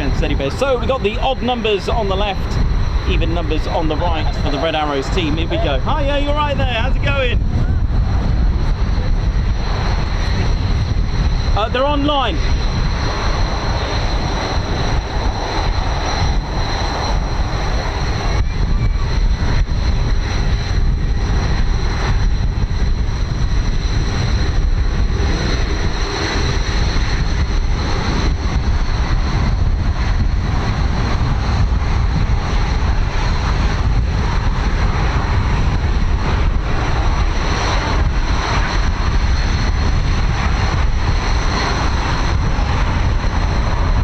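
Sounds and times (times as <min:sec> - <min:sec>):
jet engine turbine whine: 0:00.0 - 0:44.0
wind buffeting microphone: 0:00.0 - 0:44.0.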